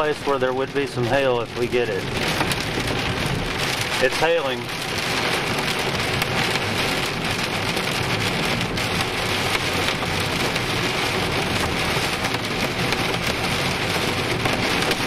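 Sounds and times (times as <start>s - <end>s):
hail and rain on car roof: 0.0s - 15.0s.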